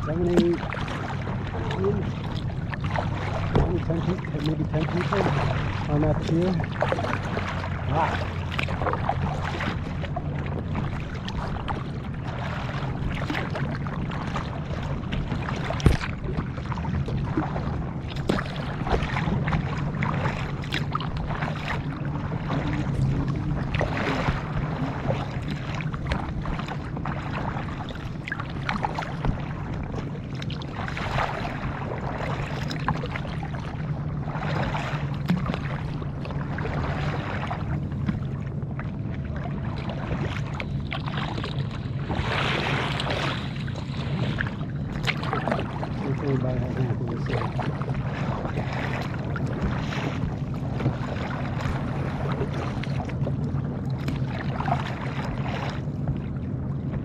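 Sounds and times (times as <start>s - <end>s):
paddle strokes splashing water: 0.0s - 57.0s
steady low rumble: 0.0s - 57.0s.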